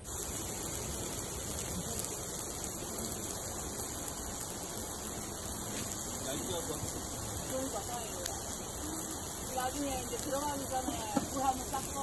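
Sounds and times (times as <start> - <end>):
meat and vegetables sizzling: 0.0 - 12.0.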